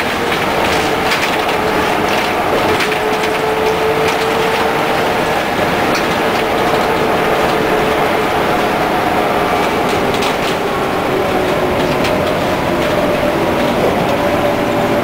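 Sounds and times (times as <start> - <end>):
bus diesel engine drone: 0.0 - 15.0
road noise: 0.0 - 15.0.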